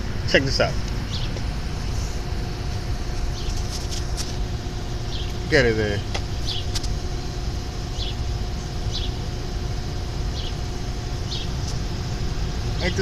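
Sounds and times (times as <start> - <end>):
faint steady hum: 0.0 - 13.0
idling engine rumble: 0.0 - 13.0.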